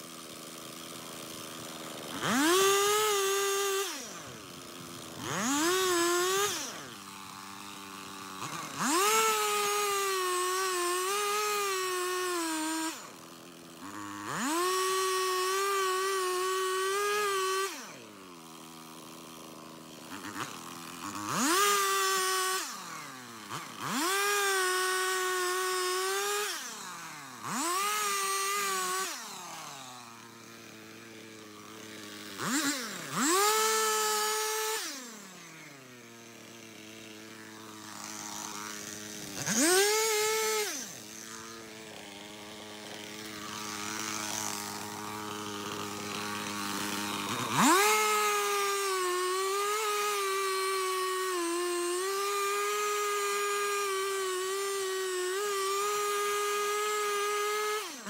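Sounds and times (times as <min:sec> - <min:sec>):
chainsaw idling: 0:00.0 - 0:58.0
chainsaw revving: 0:00.0 - 0:58.0.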